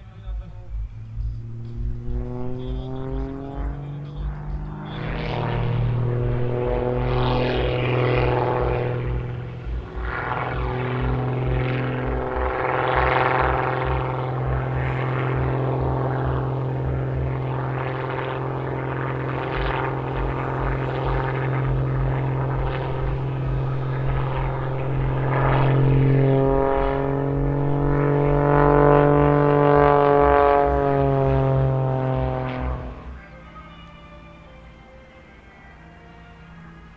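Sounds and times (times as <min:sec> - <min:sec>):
plane engine and propeller: 0:00.0 - 0:36.9.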